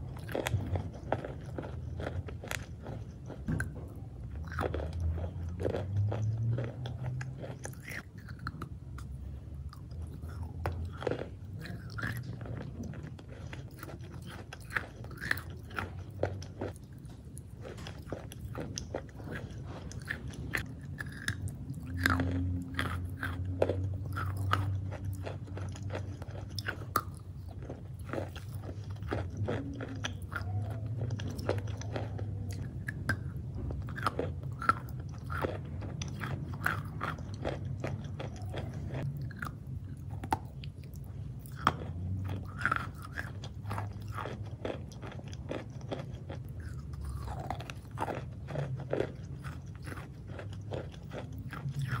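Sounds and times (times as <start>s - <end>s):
crunchy chewing of chalk: 0.0s - 52.0s
steady low hum: 0.0s - 52.0s.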